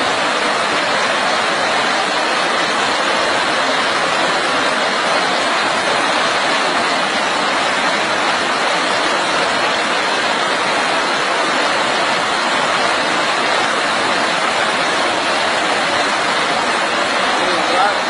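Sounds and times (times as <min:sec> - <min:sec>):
white-water torrent rushing: 0:00.0 - 0:18.0.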